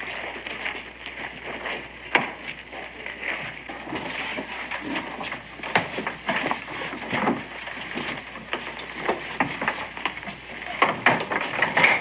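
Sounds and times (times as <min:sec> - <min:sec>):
children's footsteps on plank floor: 0:00.0 - 0:12.0.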